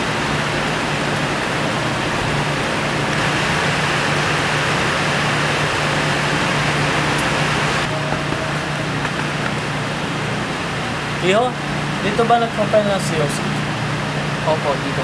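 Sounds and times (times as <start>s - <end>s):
low hum: 0.0s - 12.2s
loud rushing noise: 0.0s - 15.0s.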